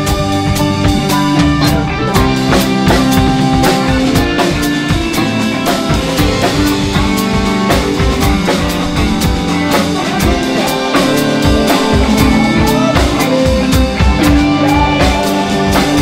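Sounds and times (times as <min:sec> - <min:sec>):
bass notes: 0:00.0 - 0:16.0
drum kit beat: 0:00.0 - 0:16.0
guitar: 0:00.0 - 0:16.0
piano: 0:00.0 - 0:16.0.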